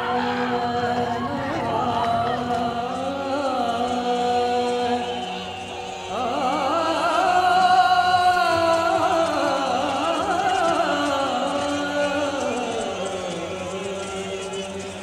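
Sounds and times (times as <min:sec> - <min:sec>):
wavering chanted melody: 0:00.0 - 0:15.0.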